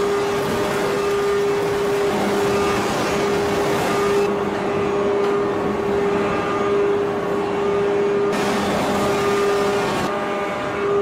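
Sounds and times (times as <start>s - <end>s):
heavy machinery drone: 0.0s - 11.0s
mid-pitched machine whine: 0.0s - 11.0s.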